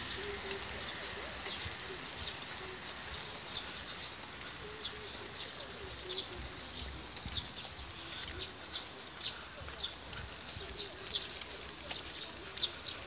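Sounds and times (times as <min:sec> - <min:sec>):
footsteps on wet stone: 0:00.0 - 0:13.0.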